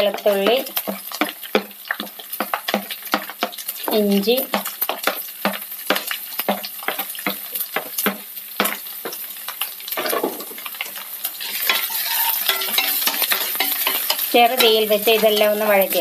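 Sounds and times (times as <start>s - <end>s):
hot oil sizzling and popping: 0.0s - 16.0s
spatula stirring in a pan: 0.0s - 16.0s.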